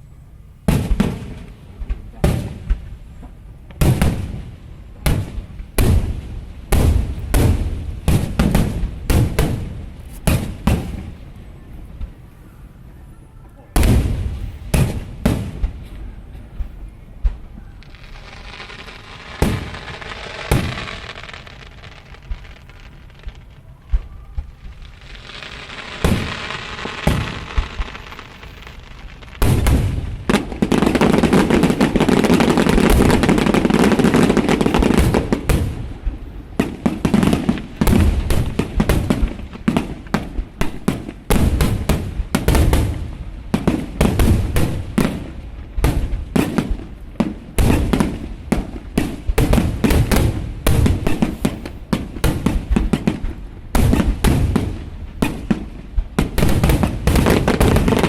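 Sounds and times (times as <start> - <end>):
fireworks bursts and bangs: 0.6 - 12.3, 13.8 - 58.0
fireworks crackling hiss: 0.6 - 12.6, 13.8 - 58.0.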